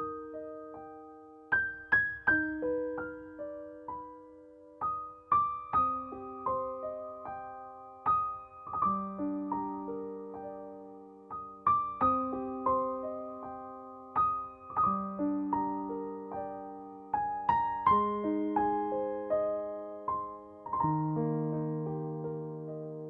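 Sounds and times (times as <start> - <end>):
slow solo piano piece: 0.0 - 23.0.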